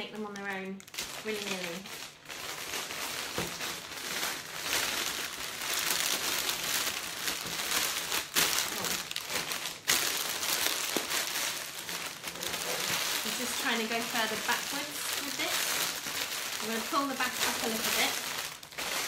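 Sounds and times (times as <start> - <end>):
cellophane wrap crinkling: 0.0 - 19.0
sharp cellophane crackles: 0.0 - 19.0.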